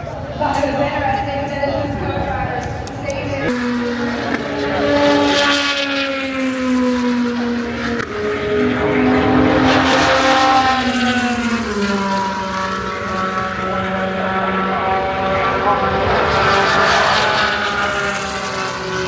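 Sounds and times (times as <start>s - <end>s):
drone of race car engines: 0.0s - 19.0s
race cars passing: 0.0s - 19.0s.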